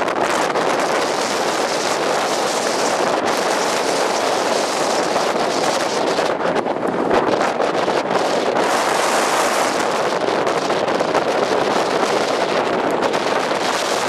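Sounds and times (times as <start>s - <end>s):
strong wind blasting microphone: 0.0s - 14.0s.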